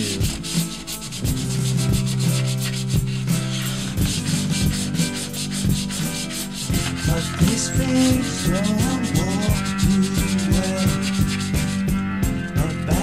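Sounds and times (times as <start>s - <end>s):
sandpaper scratching on metal: 0.0s - 11.9s.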